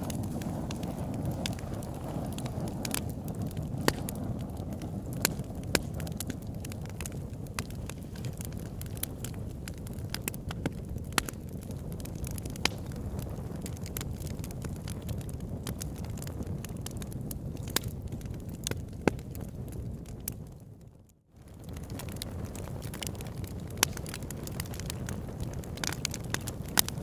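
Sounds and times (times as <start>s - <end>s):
log fire crackling and popping: 0.0s - 27.0s.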